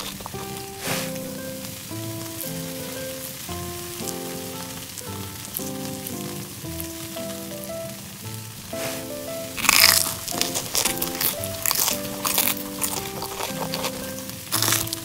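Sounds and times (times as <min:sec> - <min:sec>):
food sizzling on a griddle: 0:00.0 - 0:15.0
instrumental background music: 0:00.0 - 0:15.0.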